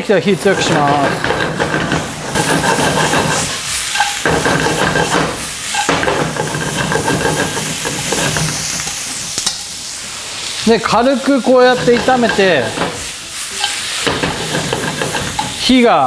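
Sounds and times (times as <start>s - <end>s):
food sizzling in a frying pan: 0.0s - 16.0s
chopsticks stirring food: 0.4s - 9.3s, 11.1s - 15.8s.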